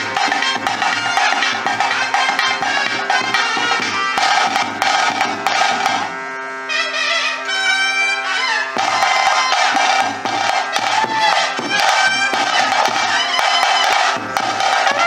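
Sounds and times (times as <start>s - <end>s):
drums: 0.0s - 6.2s, 8.7s - 15.0s
brass horn: 0.4s - 15.0s.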